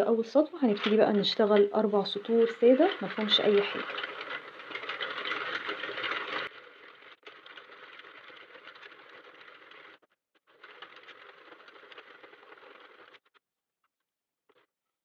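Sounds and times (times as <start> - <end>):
knitting machine clattering: 0.0 - 13.2.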